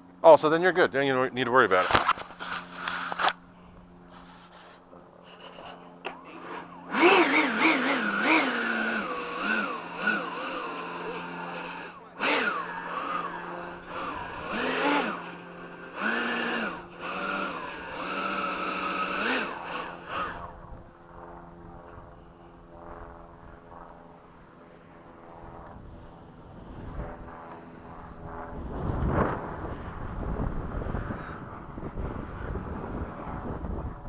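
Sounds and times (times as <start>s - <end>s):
electric ducted fan whine: 0.0s - 34.0s.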